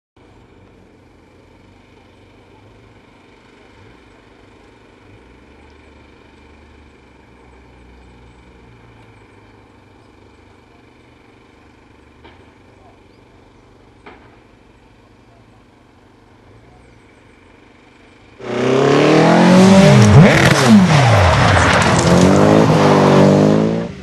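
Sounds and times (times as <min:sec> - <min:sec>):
distant vehicle engine rumble: 0:00.2 - 0:24.0
outdoor background noise: 0:00.2 - 0:24.0.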